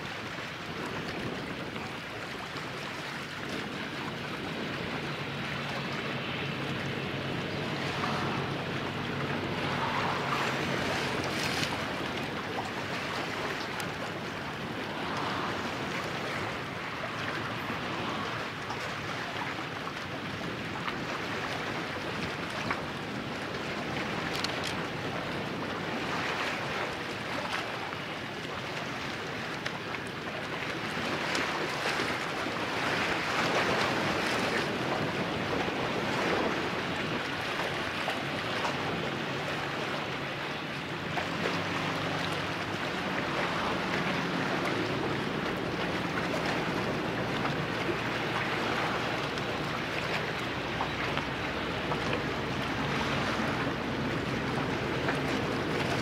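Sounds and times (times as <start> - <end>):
water noise: 0.0 - 56.0
wind: 0.0 - 56.0.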